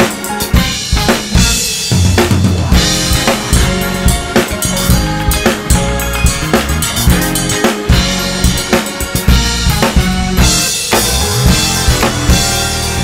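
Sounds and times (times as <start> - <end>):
acoustic drum kit groove: 0.0 - 13.0
recorded music track: 0.0 - 13.0.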